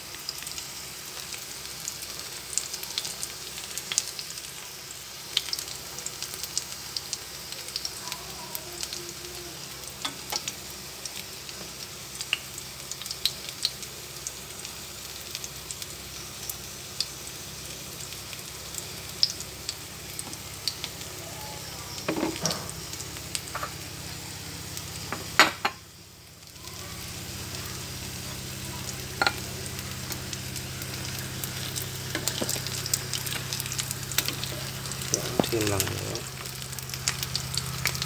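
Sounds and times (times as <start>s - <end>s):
oil sizzling in a pan: 0.0s - 38.0s.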